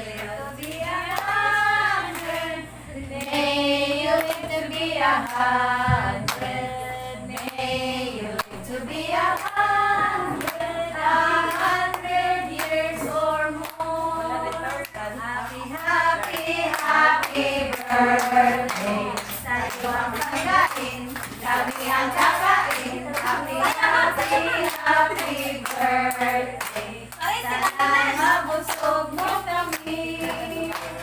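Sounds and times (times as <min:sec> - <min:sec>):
group of voices singing: 0:00.0 - 0:31.0
hands clapping: 0:00.1 - 0:02.5, 0:04.2 - 0:05.5, 0:06.2 - 0:06.6, 0:07.3 - 0:07.6, 0:08.4 - 0:08.6, 0:09.2 - 0:10.7, 0:11.4 - 0:31.0.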